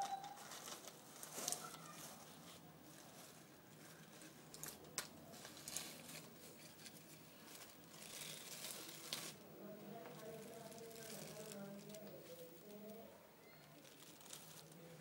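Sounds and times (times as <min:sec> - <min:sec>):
plastic bag crinkling: 0:00.0 - 0:09.4, 0:10.1 - 0:15.0.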